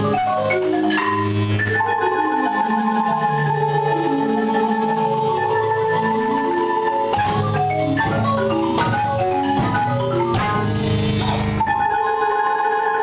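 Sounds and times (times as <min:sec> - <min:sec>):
marimbas playing: 0:00.0 - 0:13.0.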